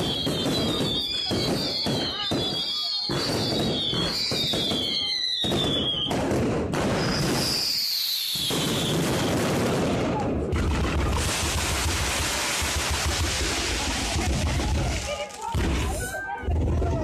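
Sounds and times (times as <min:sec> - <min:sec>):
fireworks crackling and banging: 0:00.0 - 0:17.0
whistling fireworks: 0:00.0 - 0:17.0.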